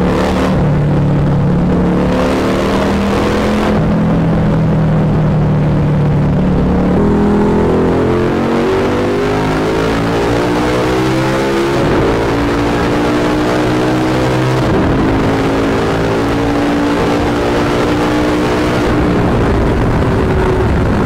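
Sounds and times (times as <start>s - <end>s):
motorcycle engine and exhaust: 0.0s - 21.0s
motorcycle engine rising in pitch: 0.0s - 21.0s.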